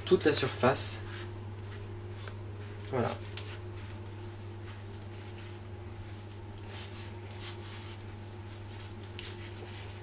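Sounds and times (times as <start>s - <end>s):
steady low hum: 0.0s - 10.0s
hands rubbing butter on dough: 0.7s - 10.0s.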